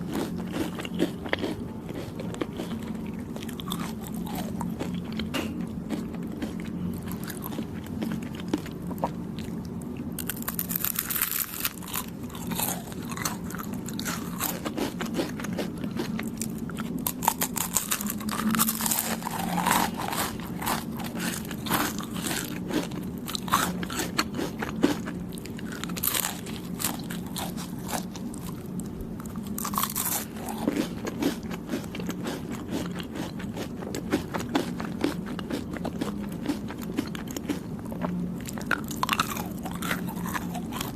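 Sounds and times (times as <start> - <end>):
person chewing: 0.0 - 40.9.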